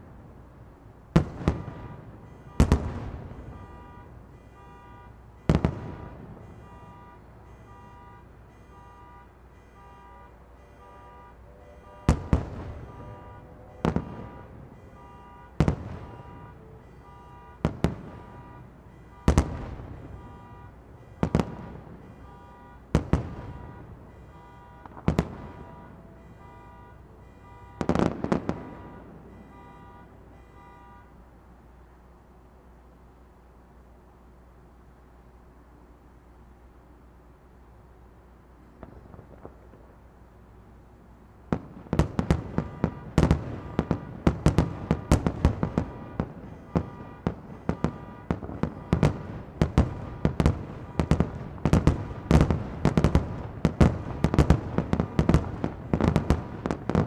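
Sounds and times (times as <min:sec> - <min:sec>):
fireworks booming with echo: 0:01.1 - 0:31.1, 0:38.7 - 0:40.0, 0:41.4 - 0:57.0.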